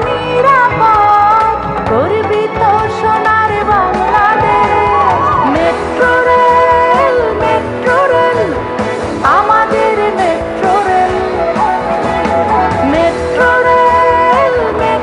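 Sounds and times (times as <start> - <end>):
instrumental backing: 0.0 - 15.0
woman singing: 0.0 - 15.0.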